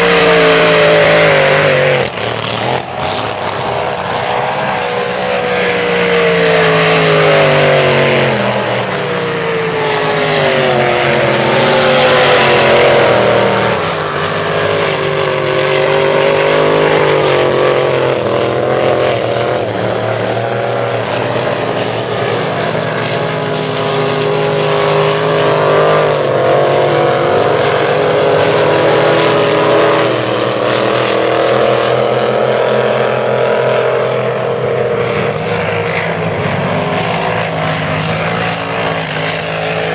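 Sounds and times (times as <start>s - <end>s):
race boat engines passing: 0.0s - 39.9s.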